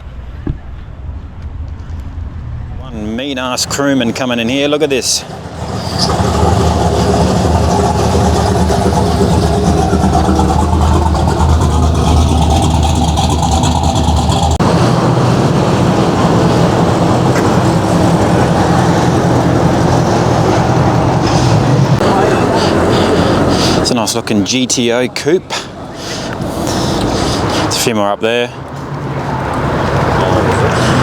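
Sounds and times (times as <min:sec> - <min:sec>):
car engine deep rumble: 0:00.0 - 0:31.0.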